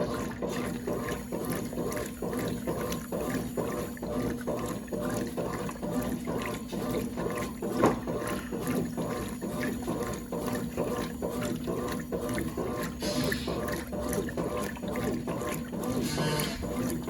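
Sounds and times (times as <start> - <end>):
motor hum: 0.0 - 17.0
washing machine water sloshing: 0.0 - 17.0.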